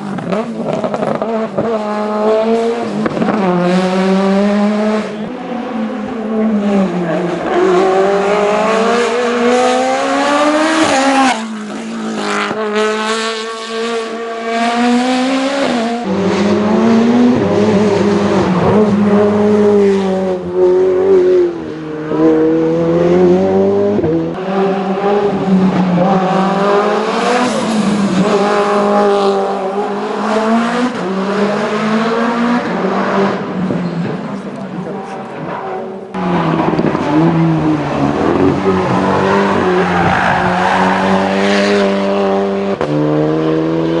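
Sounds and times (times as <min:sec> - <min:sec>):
race car engine at full throttle: 0:00.0 - 0:44.0.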